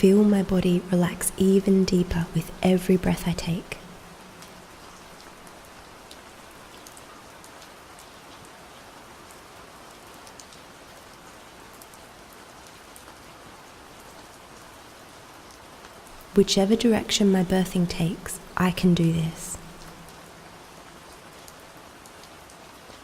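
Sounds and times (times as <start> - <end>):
gentle rain falling: 0.0 - 23.0.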